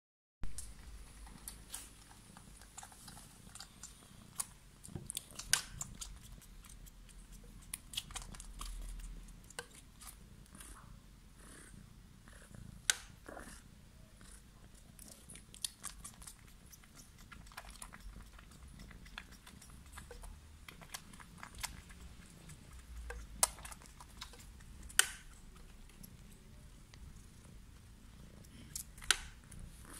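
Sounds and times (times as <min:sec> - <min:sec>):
cat licking and nibbling: 0:00.6 - 0:10.9, 0:14.2 - 0:29.9.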